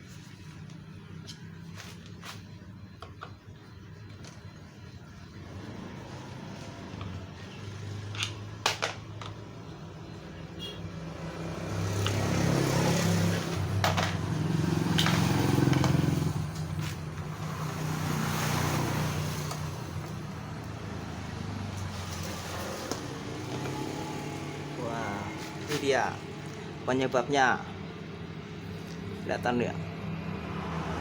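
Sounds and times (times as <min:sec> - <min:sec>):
motor vehicle engine humming: 0:00.0 - 0:31.0.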